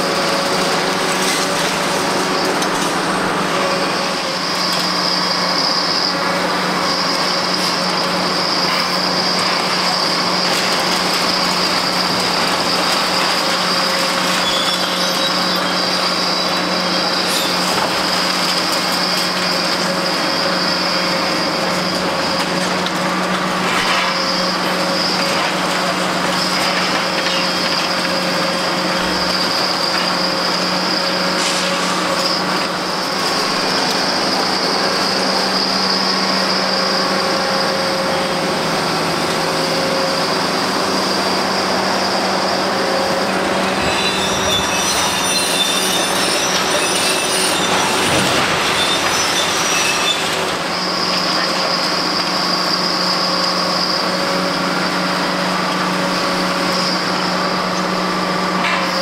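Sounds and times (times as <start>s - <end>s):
squealing and grinding of crushing: 0.0s - 54.1s
high machine whine: 0.0s - 55.2s
excavator engine drone: 0.0s - 59.0s.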